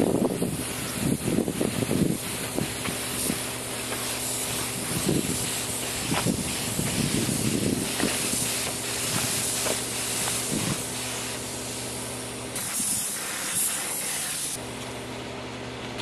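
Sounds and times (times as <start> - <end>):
spray gun air hiss: 0.0 - 14.6.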